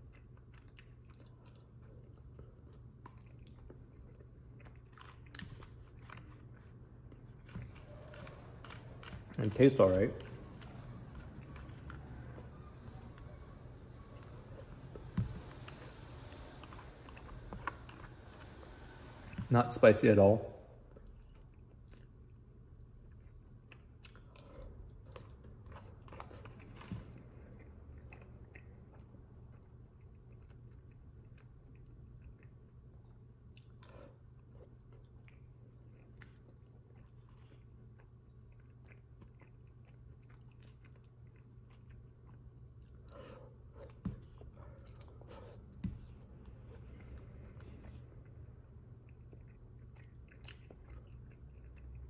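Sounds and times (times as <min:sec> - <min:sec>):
faint chewing and biting: 0:00.0 - 0:19.6, 0:20.7 - 0:52.0
steady low hum: 0:00.0 - 0:52.0.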